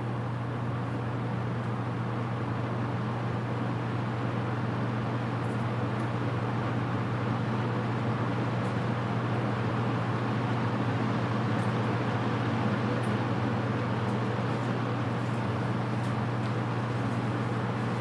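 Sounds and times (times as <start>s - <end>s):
fan blades rushing air: 0.0s - 18.0s.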